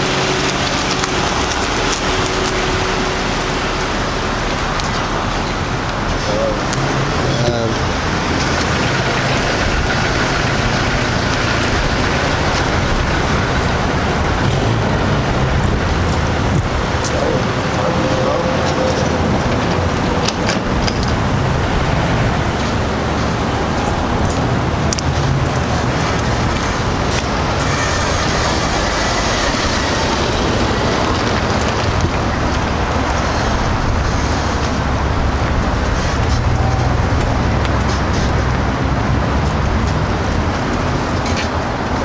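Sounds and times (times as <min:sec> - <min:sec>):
road vehicle rumble: 0:00.0 - 0:42.0.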